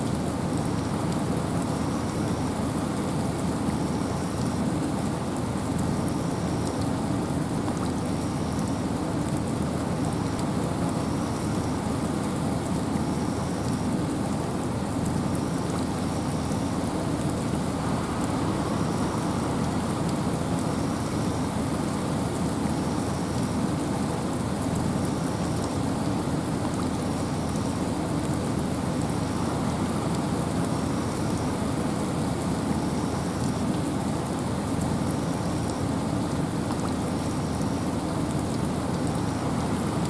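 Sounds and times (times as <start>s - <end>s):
rain falling in a forest: 0.0s - 40.0s
wind: 0.0s - 40.0s.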